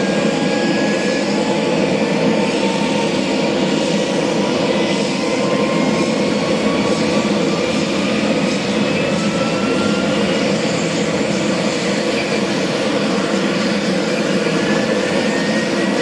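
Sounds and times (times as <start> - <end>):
aircraft turboshaft engines running: 0.0 - 16.0.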